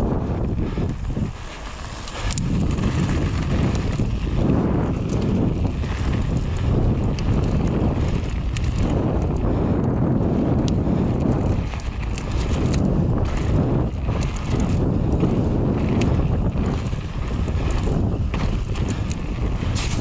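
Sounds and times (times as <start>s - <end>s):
bike tyres rolling on gravel: 0.0s - 20.0s
wind noise on microphone: 0.0s - 20.0s
small clicks: 0.9s - 4.1s, 5.0s - 10.0s, 10.6s - 20.0s.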